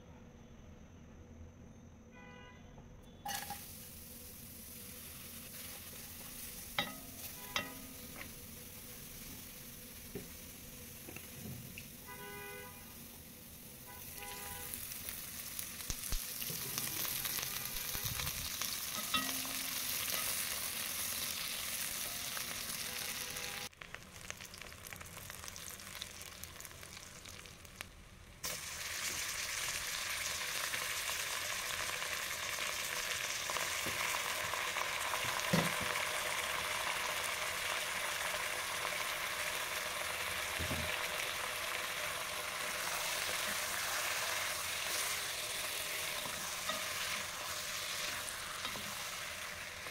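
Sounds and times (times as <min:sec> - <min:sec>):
onions sizzling in hot oil: 0:03.2 - 0:49.9.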